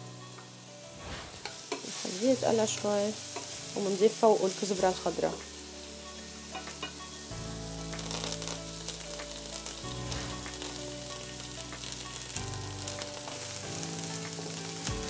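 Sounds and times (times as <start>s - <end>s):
garlic sizzling in oil: 0.0s - 15.0s
soft background music: 0.0s - 15.0s.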